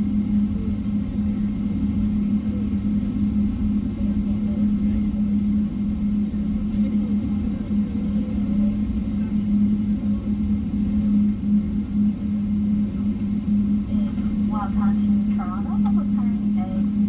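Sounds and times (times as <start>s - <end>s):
constant hum: 0.0s - 17.0s
jet engine rumble: 0.0s - 17.0s.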